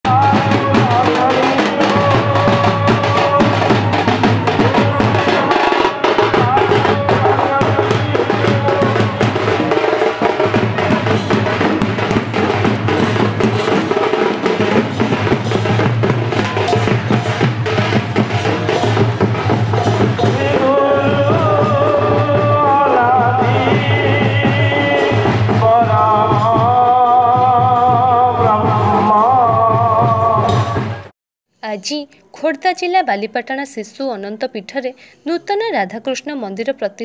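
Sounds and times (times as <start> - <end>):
drummers beating metal drums: 0.0 - 31.1.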